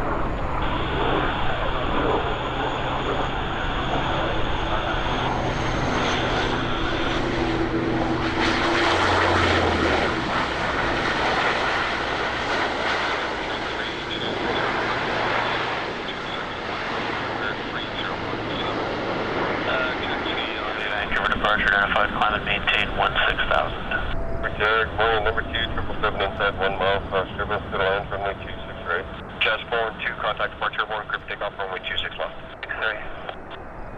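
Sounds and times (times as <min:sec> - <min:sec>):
turboprop plane engine drone: 0:00.0 - 0:33.9.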